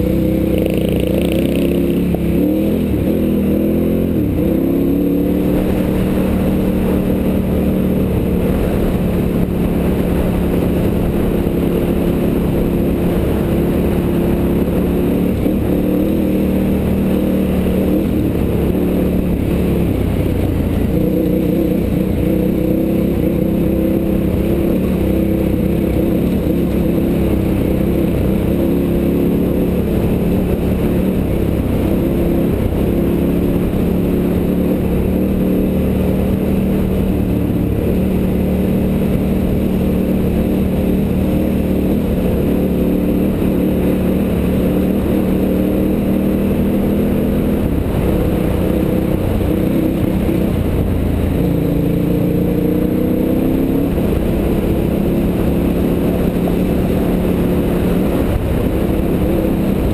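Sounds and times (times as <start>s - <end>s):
motorcycle engine running: 0.0s - 59.9s
wind and road rumble: 0.0s - 59.9s.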